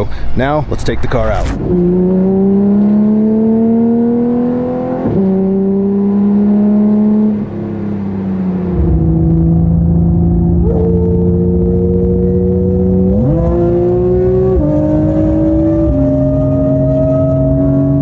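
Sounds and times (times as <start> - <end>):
car engine accelerating: 1.3 - 18.0.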